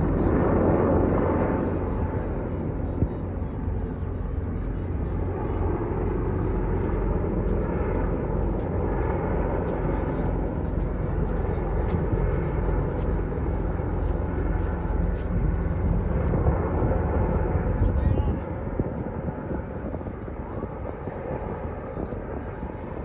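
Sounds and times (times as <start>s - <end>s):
helicopters droning overhead: 0.0s - 23.0s.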